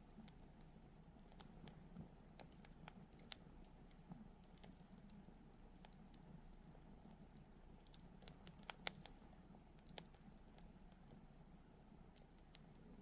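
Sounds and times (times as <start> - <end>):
low steady background rush: 0.0 - 13.0.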